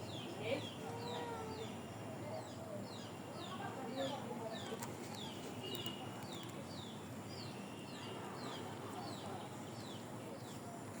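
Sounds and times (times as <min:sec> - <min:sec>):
bird chirping: 0:00.0 - 0:10.6
low background murmur: 0:00.0 - 0:11.0.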